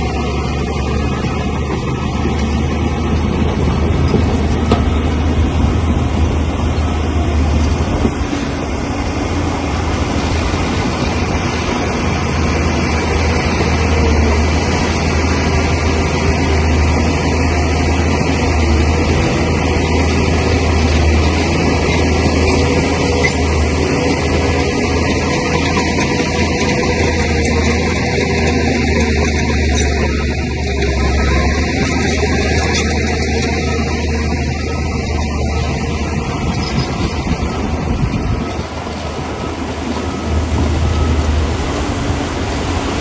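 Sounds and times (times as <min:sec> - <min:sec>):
bulldozer diesel engine drone: 0:00.0 - 0:43.0.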